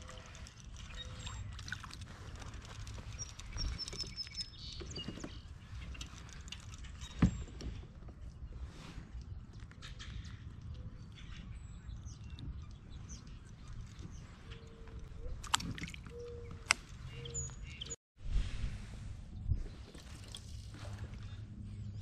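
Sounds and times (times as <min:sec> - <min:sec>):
birds chirping: 0:00.0 - 0:18.0
wind buffeting microphone: 0:00.0 - 0:22.0.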